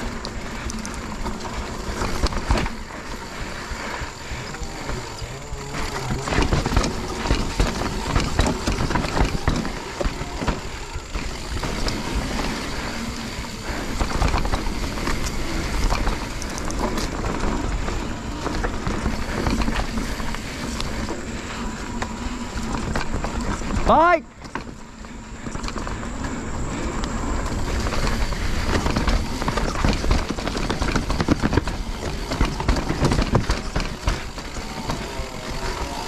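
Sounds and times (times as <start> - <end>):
bike rattling over bumps: 0.0 - 36.0
tyres rumbling on dirt: 0.0 - 36.0.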